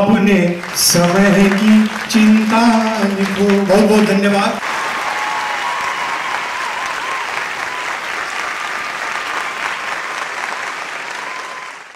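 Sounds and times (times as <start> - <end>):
large crowd clapping: 0.0 - 11.9.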